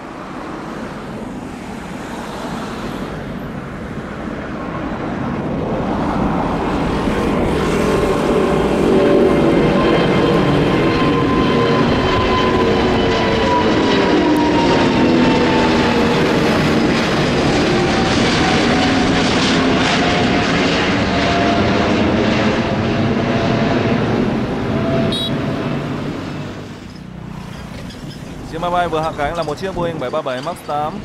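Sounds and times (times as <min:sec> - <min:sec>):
jet engines roaring overhead: 0:00.0 - 0:31.0.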